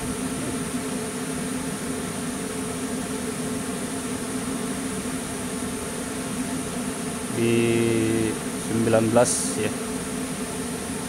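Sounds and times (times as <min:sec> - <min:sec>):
welding machine hum and fan: 0:00.0 - 0:11.0.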